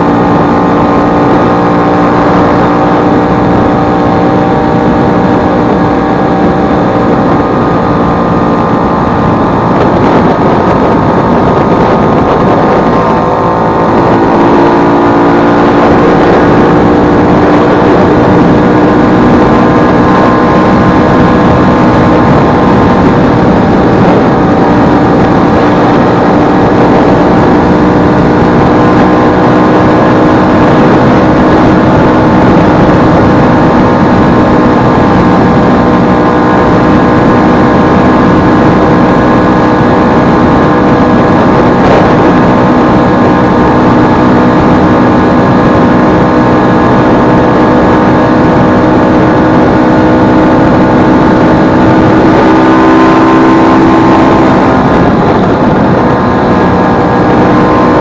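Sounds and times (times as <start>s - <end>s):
scooter engine running: 0.0s - 58.0s.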